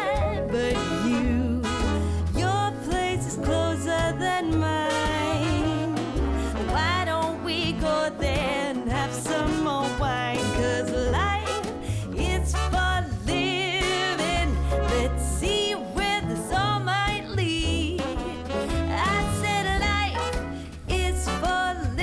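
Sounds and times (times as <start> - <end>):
upbeat swing song: 0.0 - 22.0.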